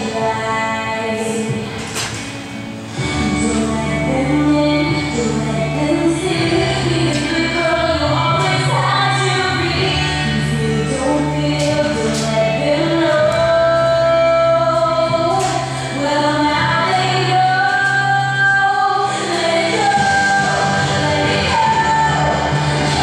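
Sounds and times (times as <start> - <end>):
woman singing: 0.0 - 2.0, 3.0 - 23.0.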